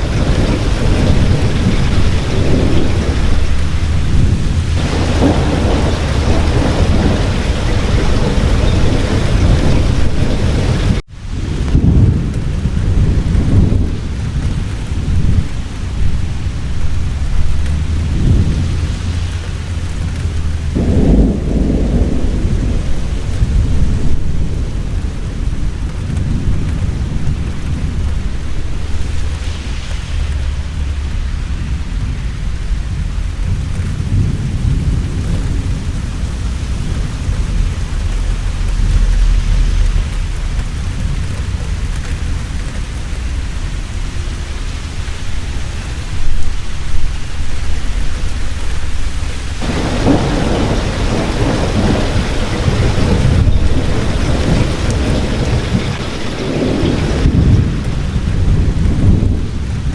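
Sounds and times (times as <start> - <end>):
heavy rain: 0.0 - 59.9
thunder rumbling: 0.0 - 59.9.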